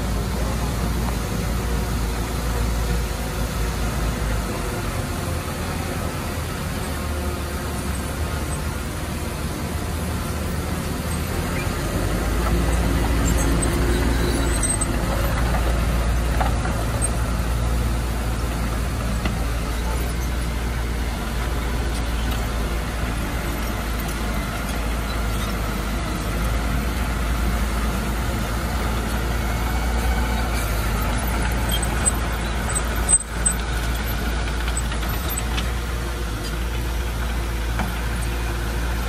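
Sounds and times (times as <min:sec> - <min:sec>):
heavy machinery diesel engine: 0:00.0 - 0:39.0.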